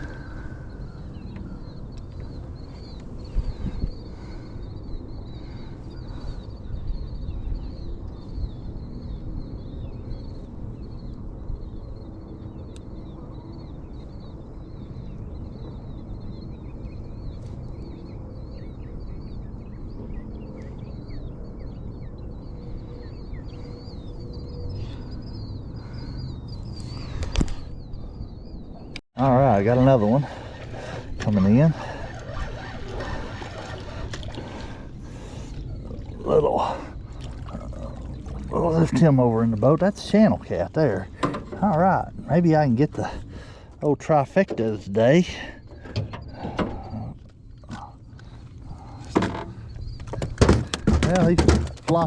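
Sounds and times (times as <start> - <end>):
birds chirping: 0.0 - 52.0
wind: 0.0 - 52.0.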